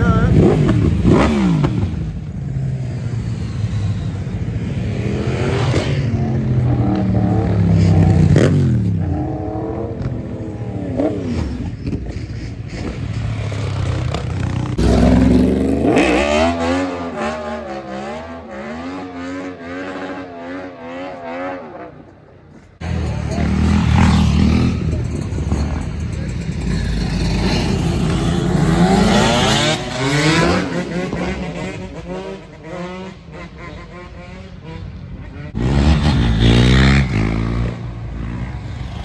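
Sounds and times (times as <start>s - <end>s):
motorbike engines revving and passing: 0.0s - 39.0s.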